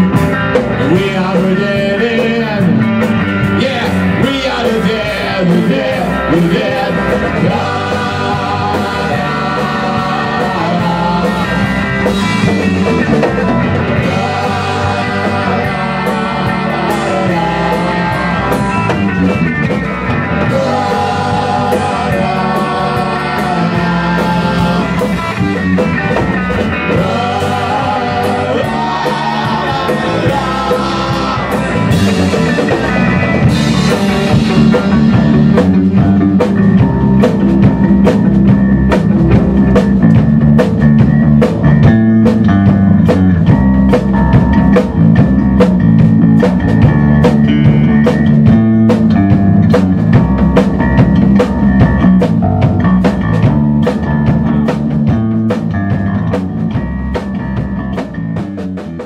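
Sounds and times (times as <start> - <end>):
rock band playing live: 0.0 - 59.0
steady drum beat: 0.0 - 59.0.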